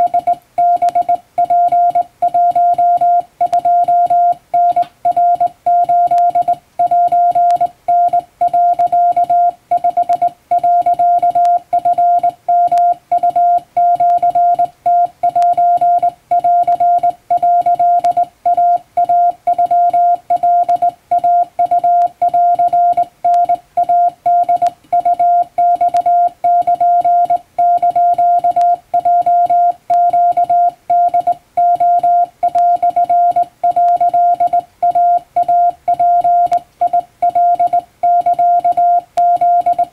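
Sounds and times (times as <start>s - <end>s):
morse code tone: 0.0s - 39.9s.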